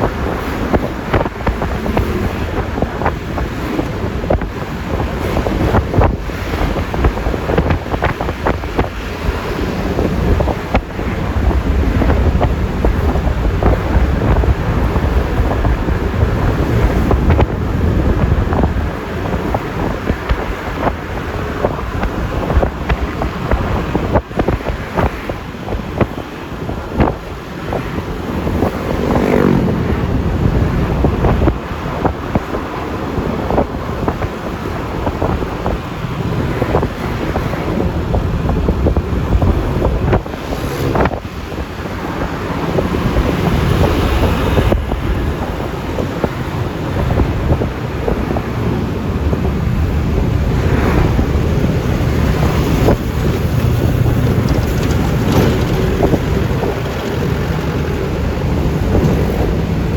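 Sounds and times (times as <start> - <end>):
scooter engine hum: 0.0 - 59.9
tyres on road: 0.0 - 59.9
wind on microphone: 0.0 - 59.9.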